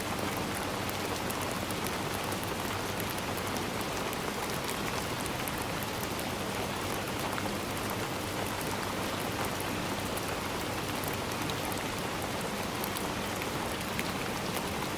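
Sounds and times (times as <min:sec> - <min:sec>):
heavy rain on hard surfaces: 0:00.0 - 0:14.9.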